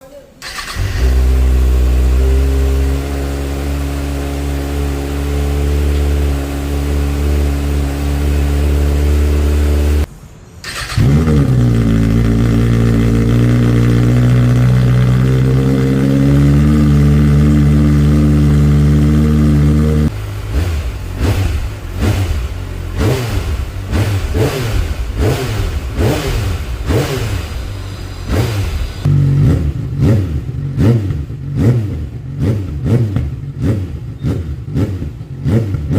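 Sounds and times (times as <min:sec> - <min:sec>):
motorcycle engine revving: 0:00.4 - 0:35.9.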